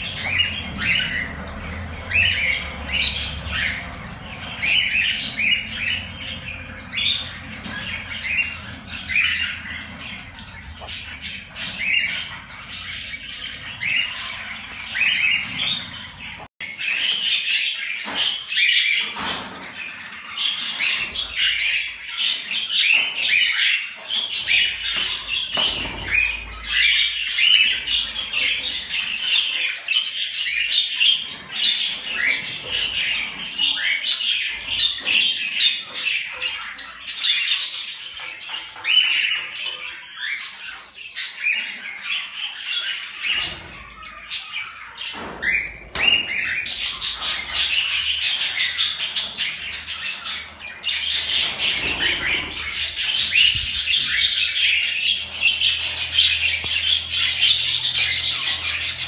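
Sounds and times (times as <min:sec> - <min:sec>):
cockatiels chirping and squawking: 0:00.0 - 0:59.0.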